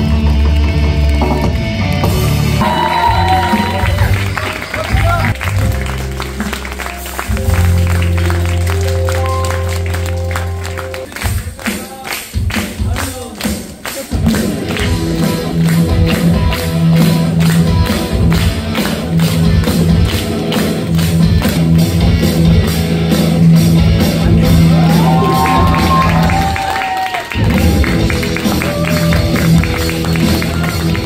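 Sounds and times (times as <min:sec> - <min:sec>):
bass line: 0:00.0 - 0:11.1, 0:14.2 - 0:26.7, 0:27.4 - 0:31.0.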